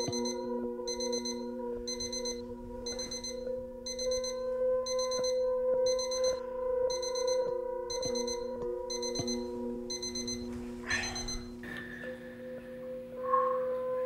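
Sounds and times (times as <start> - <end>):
alarm clock beeping: 0.0 - 11.6
steady low tone: 0.0 - 11.9.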